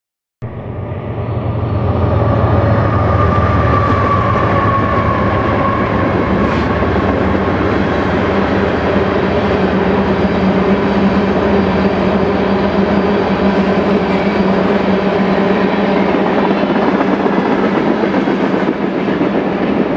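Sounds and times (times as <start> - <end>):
diesel locomotive engines passing: 0.4 - 19.9
locomotive whine: 0.4 - 19.9.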